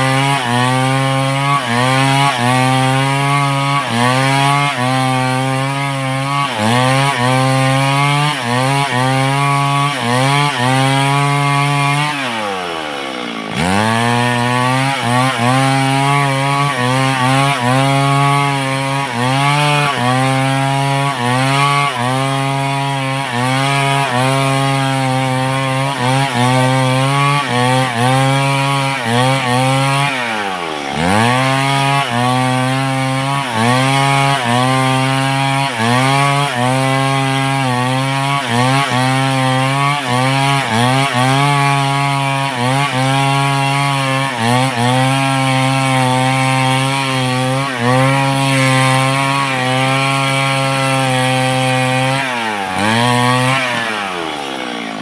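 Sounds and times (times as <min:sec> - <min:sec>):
chainsaw cutting through wood: 0:00.0 - 0:55.0.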